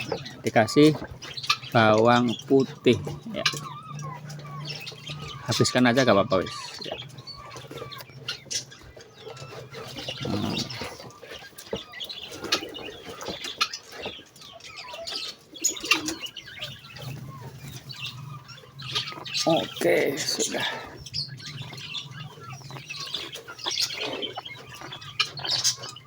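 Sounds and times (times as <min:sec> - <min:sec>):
bird chirps: 0:00.0 - 0:26.0.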